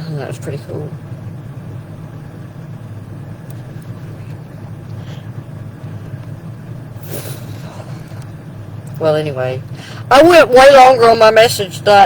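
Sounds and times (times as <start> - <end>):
low rumbling drone: 0.0 - 11.2.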